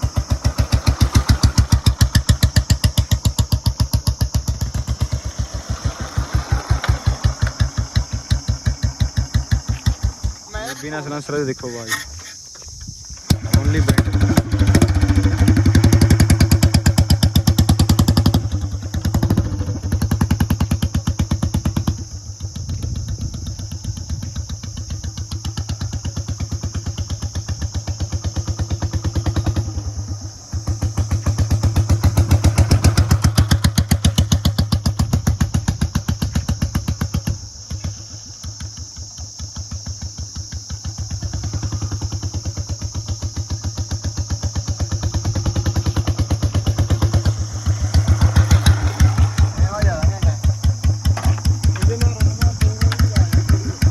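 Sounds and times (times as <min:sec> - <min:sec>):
motorcycle engine open exhaust revving: 0:00.0 - 0:11.0, 0:11.7 - 0:53.9.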